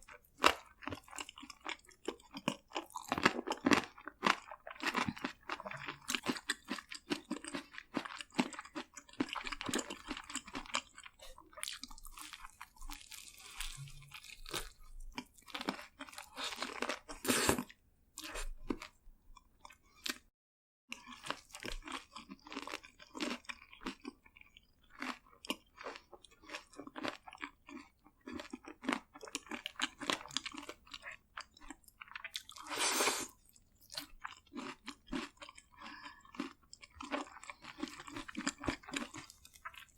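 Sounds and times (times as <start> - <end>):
crunching and chewing fried chicken: 0.0 - 20.3, 20.9 - 39.9.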